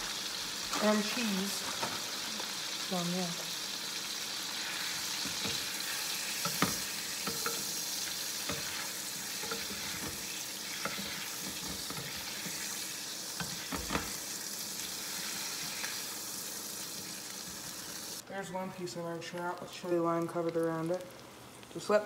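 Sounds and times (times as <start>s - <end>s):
fish sizzling in a frying pan: 0.0s - 18.2s.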